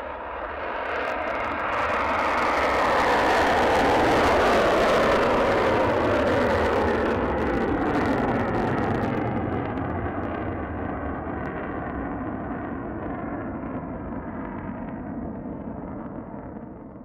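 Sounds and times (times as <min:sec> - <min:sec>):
jet engine in afterburner: 0:00.0 - 0:17.0.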